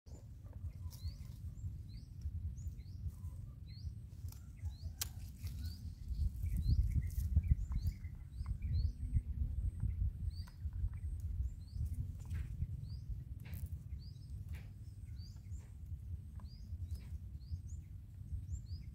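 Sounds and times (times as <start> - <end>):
small bird chirping: 0.1 - 18.9
steady low rumble: 0.1 - 18.9.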